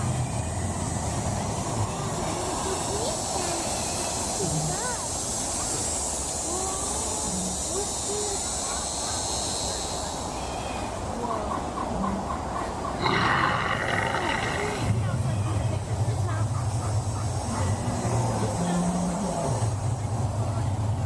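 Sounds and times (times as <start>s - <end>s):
birds calling: 0.0s - 21.0s
steady background noise: 0.0s - 21.0s.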